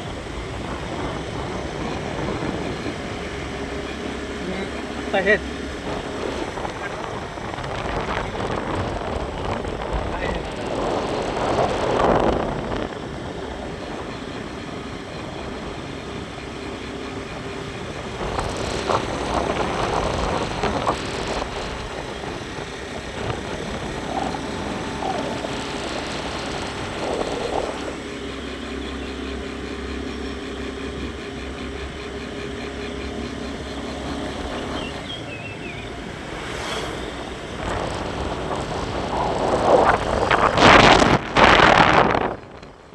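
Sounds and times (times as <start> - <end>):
vehicle engine hum: 0.0 - 42.9
wind buffeting microphone: 0.0 - 42.9.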